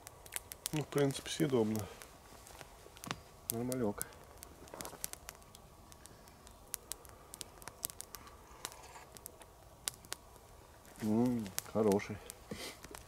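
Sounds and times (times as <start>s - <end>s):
quiet outdoor background: 0.0s - 13.0s.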